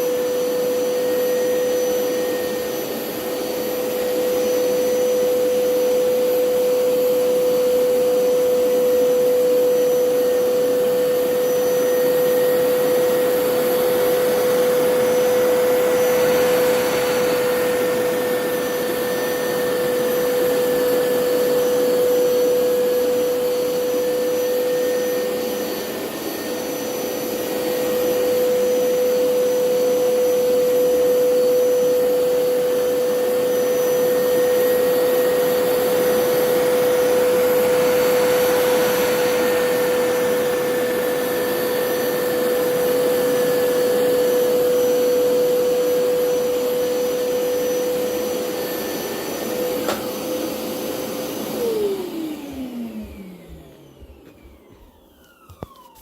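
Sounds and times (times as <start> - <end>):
carpet cleaner motor humming: 0.0 - 56.0.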